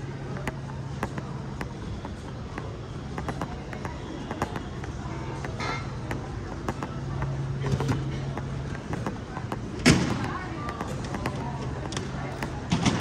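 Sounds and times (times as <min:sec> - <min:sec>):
sharp clicks and knocks: 0:00.0 - 0:13.0.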